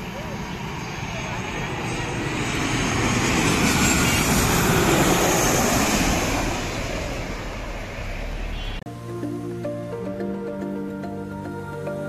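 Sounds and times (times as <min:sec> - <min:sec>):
jet engines rushing overhead: 0:00.0 - 0:12.0.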